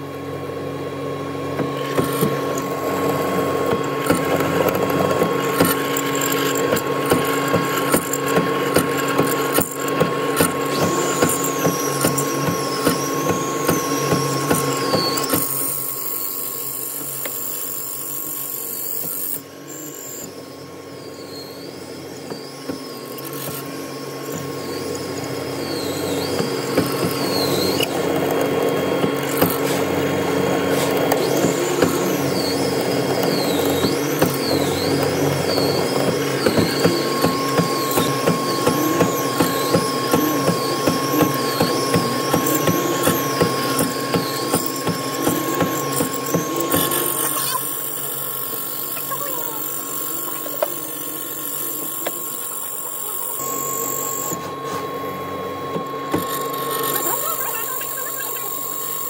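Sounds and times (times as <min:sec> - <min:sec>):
mortising machine motor whine: 0:00.0 - 0:59.0.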